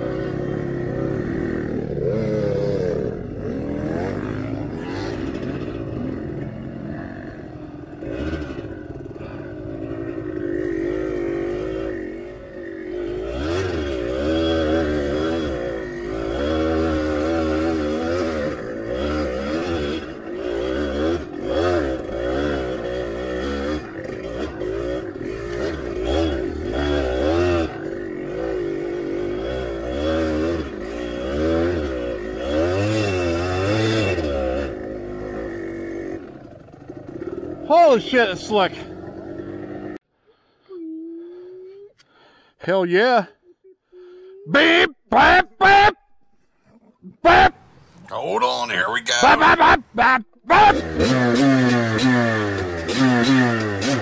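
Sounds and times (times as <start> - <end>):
dirt bike engine revving: 0.0 - 40.0, 50.5 - 54.0.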